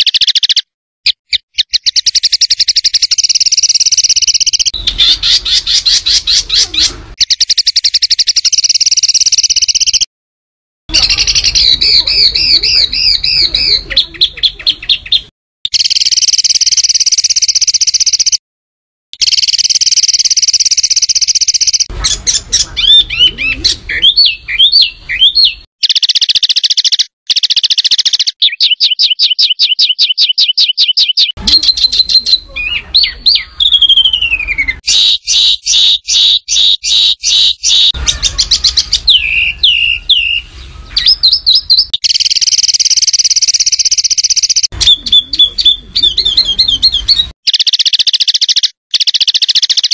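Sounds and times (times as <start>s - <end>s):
songbird chirps and trills: 0.0s - 10.1s, 10.9s - 18.4s, 19.2s - 49.9s.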